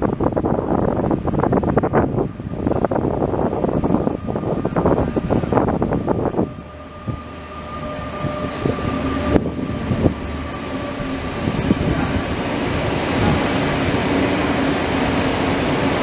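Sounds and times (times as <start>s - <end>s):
passenger train passing: 0.0s - 16.0s
steady whine: 1.0s - 16.0s.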